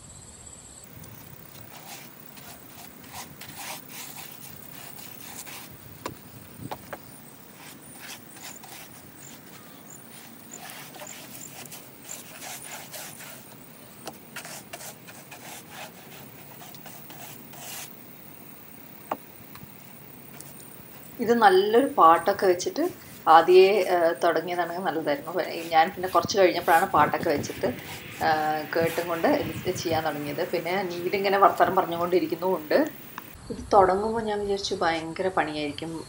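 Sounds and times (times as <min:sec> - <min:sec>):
paintbrush scratching on wood: 0:01.0 - 0:18.0, 0:20.3 - 0:33.4.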